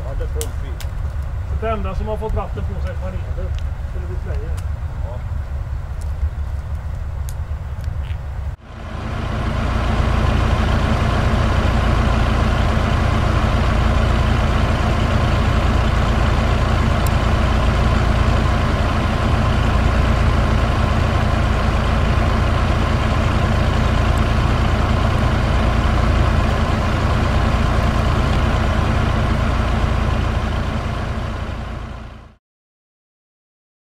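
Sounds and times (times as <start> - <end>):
truck diesel engine running: 0.0 - 32.4.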